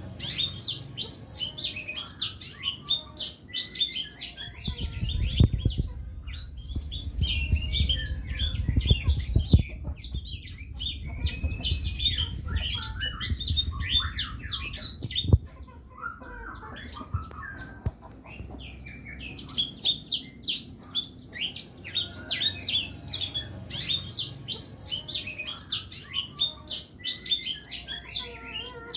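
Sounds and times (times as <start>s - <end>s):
bird twittering trills: 0.0s - 28.9s.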